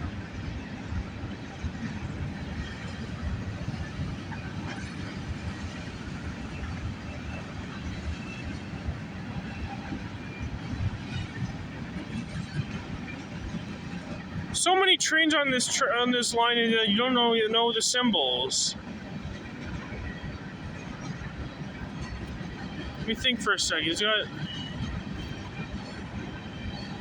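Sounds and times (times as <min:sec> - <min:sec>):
freight train wheels clattering on rails: 0:00.0 - 0:14.7, 0:18.8 - 0:27.0.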